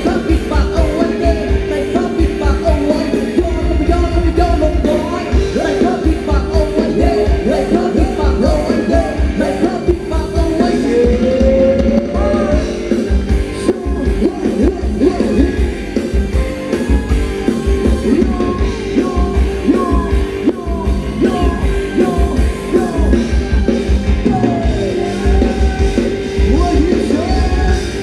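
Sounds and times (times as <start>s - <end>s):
bass and drum beat: 0.0s - 28.0s
person singing: 0.0s - 28.0s.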